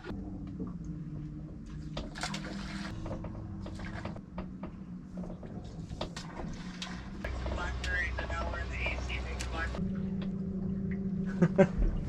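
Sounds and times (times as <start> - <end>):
outboard motor humming: 0.0 - 12.0
water slapping against hull: 1.4 - 12.0.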